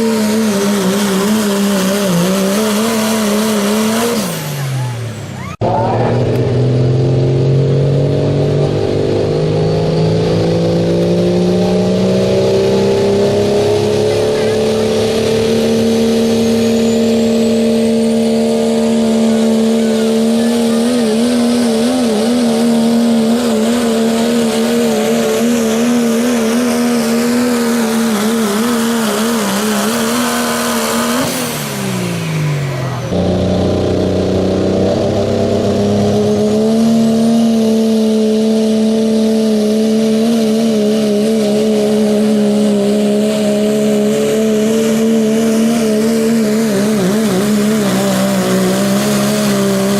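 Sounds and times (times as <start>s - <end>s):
pickup truck engine at full throttle: 0.0s - 49.9s.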